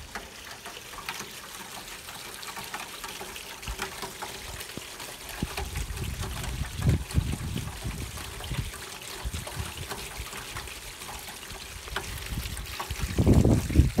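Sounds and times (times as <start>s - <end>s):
rain falling steadily: 0.0s - 14.0s
water drips: 0.0s - 14.0s
water splashing from downspout: 0.0s - 14.0s.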